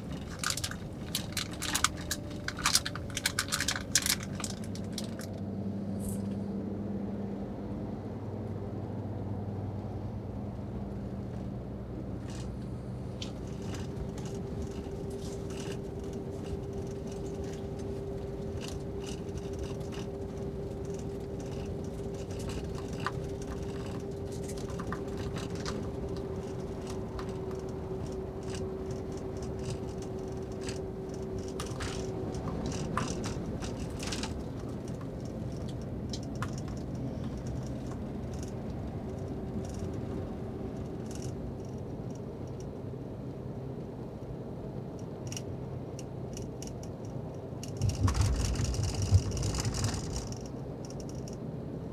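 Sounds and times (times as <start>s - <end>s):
light interior rattles and ticks: 0.0s - 6.6s, 9.8s - 51.9s
bus engine and tyres droning: 0.0s - 51.9s
steady hum: 0.0s - 51.9s.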